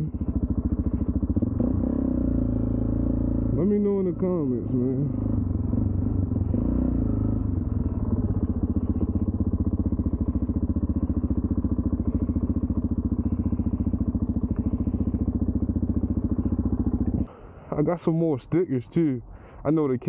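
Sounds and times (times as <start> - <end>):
motorcycle engine at low revs: 0.0 - 17.4.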